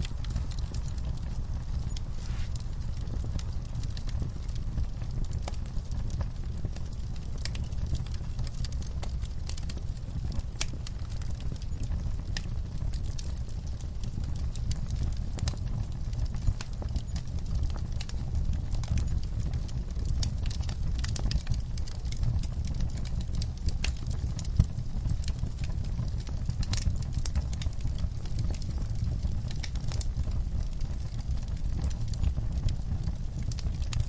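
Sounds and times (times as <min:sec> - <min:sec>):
low rumble of fire: 0:00.0 - 0:34.0
wood fire crackling: 0:00.0 - 0:34.0.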